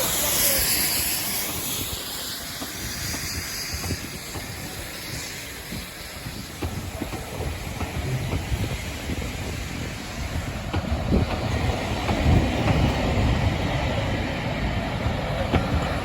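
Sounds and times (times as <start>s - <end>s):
low train rumble: 0.0s - 16.0s
steam locomotive hiss: 0.0s - 16.0s
train clanks: 0.0s - 16.0s.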